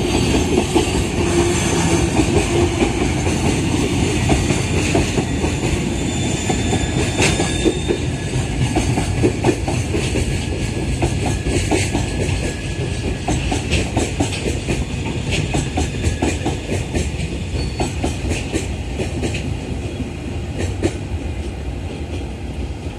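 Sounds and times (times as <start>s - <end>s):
freight train rolling past: 0.0s - 22.9s.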